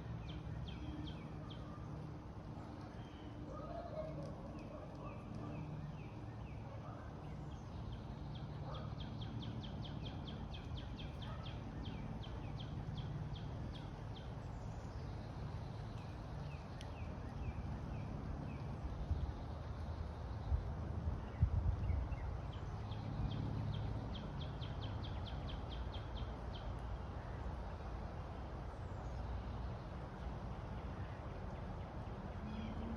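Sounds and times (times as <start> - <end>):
songbird singing: 0.0 - 1.9, 2.8 - 32.9.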